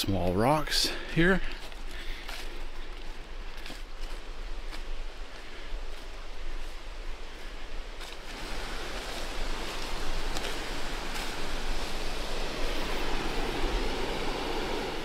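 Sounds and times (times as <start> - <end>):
creek rushing: 0.1 - 15.0.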